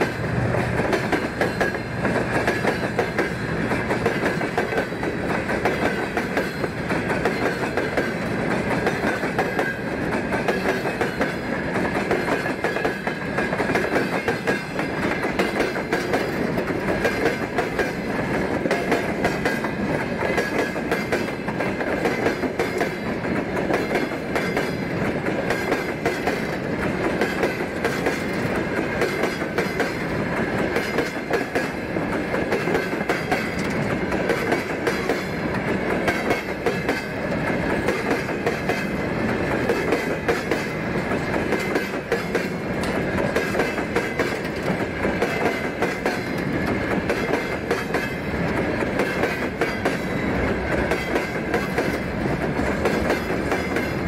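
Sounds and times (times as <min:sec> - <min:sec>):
freight wagons clattering on rails: 0:00.0 - 0:54.0.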